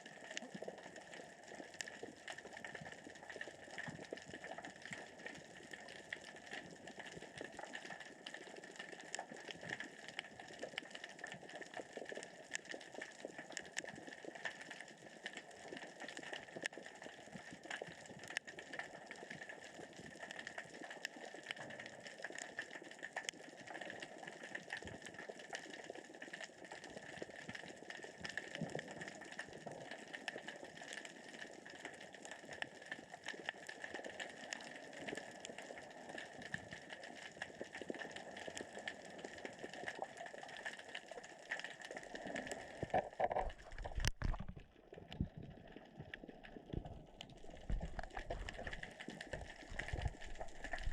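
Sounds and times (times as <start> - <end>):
underwater rocks crackling and clicking: 0.0 - 50.9.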